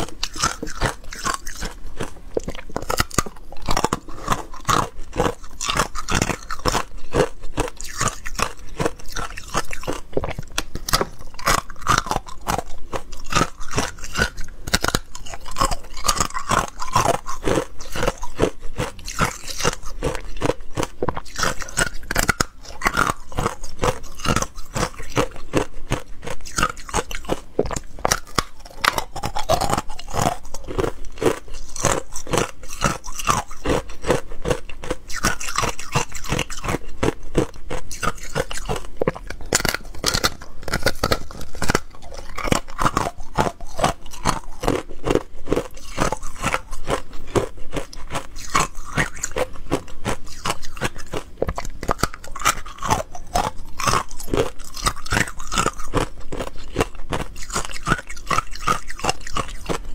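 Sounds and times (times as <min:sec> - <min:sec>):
ice cubes crunching when chewed: 0:00.0 - 0:59.9.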